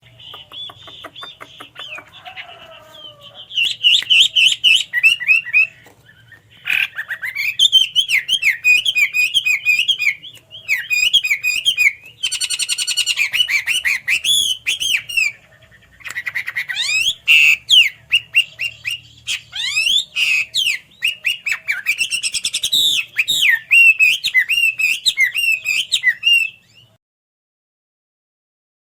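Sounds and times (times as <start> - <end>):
bird whistling and warbling: 0.0 - 27.0.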